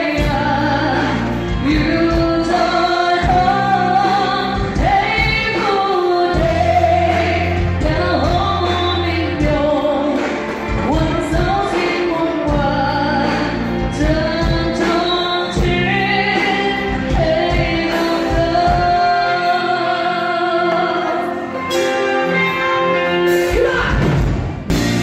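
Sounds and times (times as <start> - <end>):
bass: 0.0 - 21.6, 22.3 - 25.0
woman singing lead: 0.0 - 24.3
drums: 0.0 - 25.0
electric guitars: 0.0 - 25.0.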